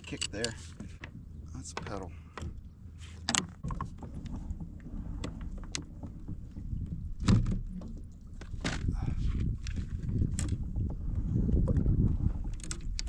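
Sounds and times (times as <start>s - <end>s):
pedal drive and water rumble: 0.0s - 13.0s.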